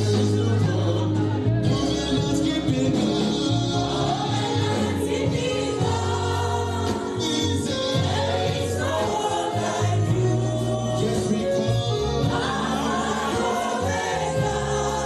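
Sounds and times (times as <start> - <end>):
band playing: 0.0 - 15.0
choir singing gospel: 0.0 - 15.0.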